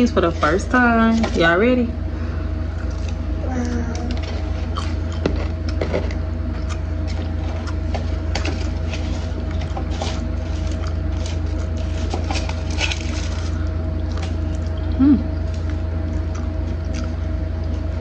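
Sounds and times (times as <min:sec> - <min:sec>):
steady low hum: 0:00.0 - 0:18.0
crunchy chewing: 0:02.7 - 0:18.0.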